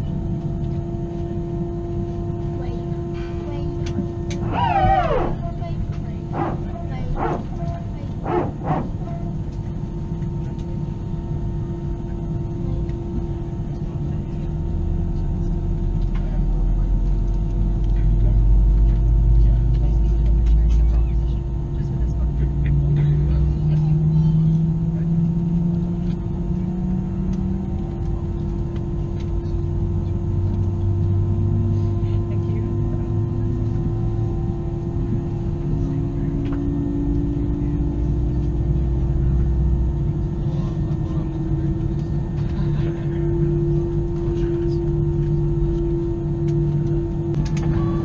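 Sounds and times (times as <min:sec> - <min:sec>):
aircraft cabin engine rumble: 0:00.0 - 0:48.0.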